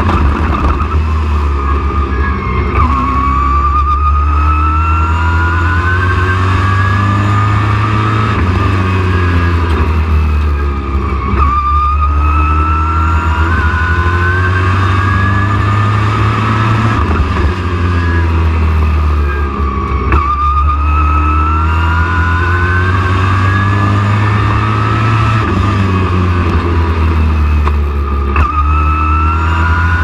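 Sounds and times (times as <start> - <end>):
racing truck engine whining: 0.0 - 30.0.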